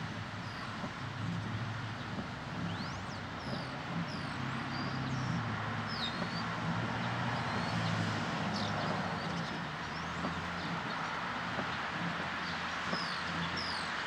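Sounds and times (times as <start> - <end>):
broad rush of noise: 0.0 - 14.0
low engine hum: 0.0 - 14.0
small birds chirping: 0.1 - 14.0.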